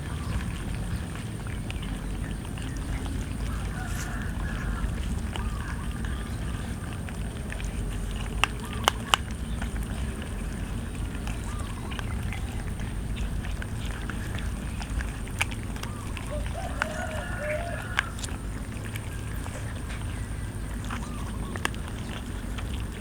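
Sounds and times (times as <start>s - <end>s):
cats chewing: 0.0s - 23.0s
steady low rumble: 0.0s - 23.0s.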